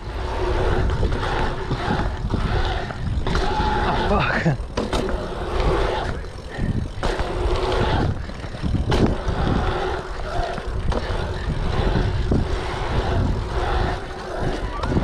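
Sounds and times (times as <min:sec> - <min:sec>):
bicycle tyres rolling on asphalt: 0:00.0 - 0:15.0
wind buffeting microphone: 0:00.0 - 0:15.0
bike knocking: 0:00.7 - 0:15.0.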